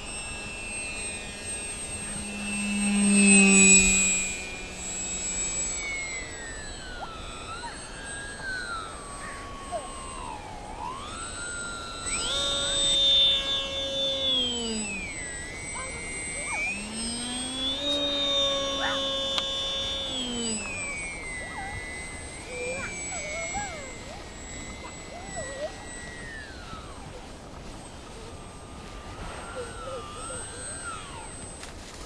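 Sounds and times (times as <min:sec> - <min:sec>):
model plane motor whining: 0:00.0 - 0:32.0.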